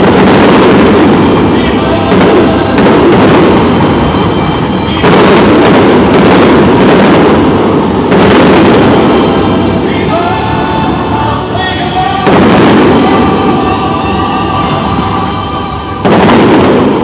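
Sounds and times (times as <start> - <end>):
firework shells booming: 0.0 - 17.0
rolling echo: 0.0 - 17.0.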